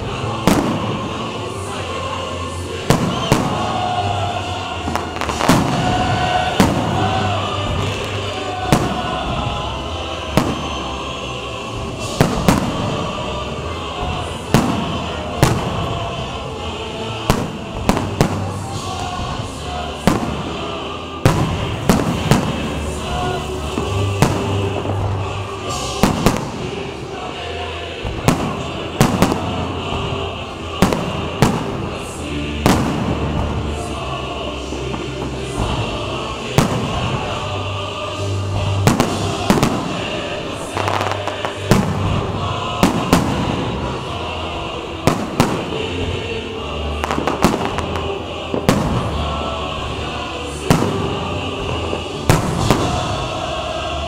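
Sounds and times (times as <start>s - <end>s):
fireworks bursting with sharp bangs: 0.0s - 53.9s
music playing: 0.0s - 54.0s.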